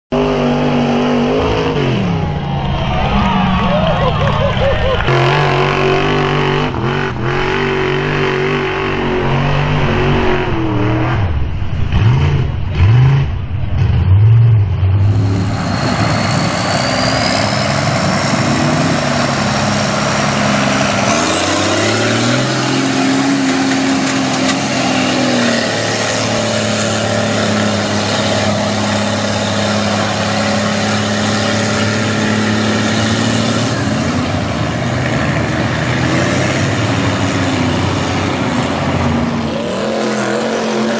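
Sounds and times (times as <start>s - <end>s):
truck engines revving: 0.1s - 40.9s.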